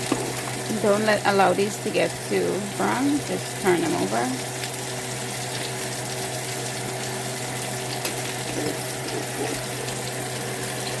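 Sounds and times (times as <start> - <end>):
low steady hum: 0.0 - 11.0
vegetables sizzling in oil: 0.0 - 11.0.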